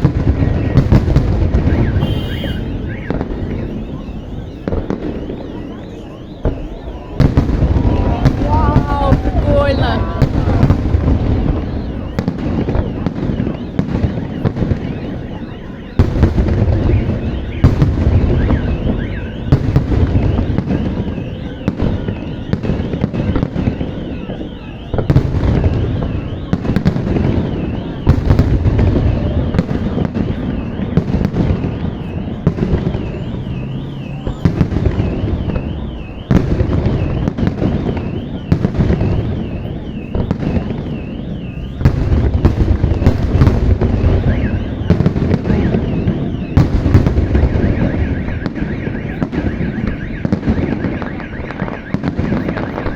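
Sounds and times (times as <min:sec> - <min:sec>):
firework shells booming: 0:00.0 - 0:52.9.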